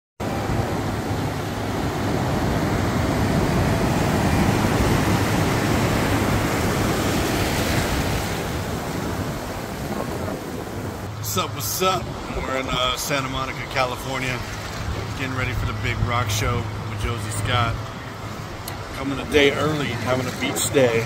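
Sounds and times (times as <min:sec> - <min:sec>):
ocean surf breaking: 0:00.2 - 0:21.0.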